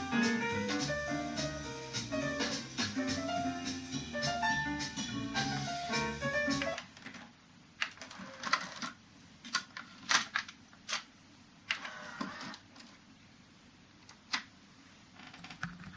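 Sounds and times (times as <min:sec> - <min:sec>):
tape hiss: 0:00.0 - 0:15.9.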